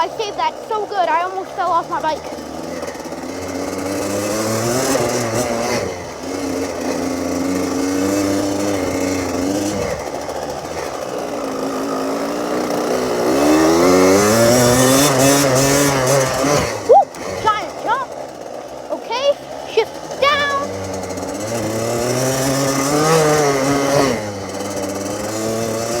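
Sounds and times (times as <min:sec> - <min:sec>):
dirt bike engine accelerating: 0:00.0 - 0:26.0.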